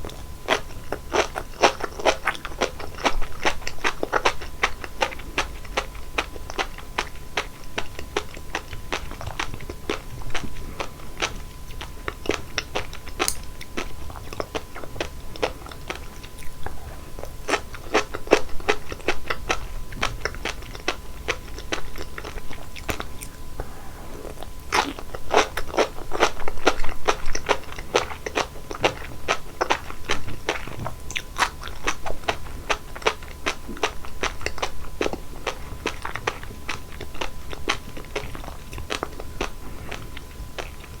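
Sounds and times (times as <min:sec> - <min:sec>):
close chewing with crisp pops: 0:00.0 - 0:41.0.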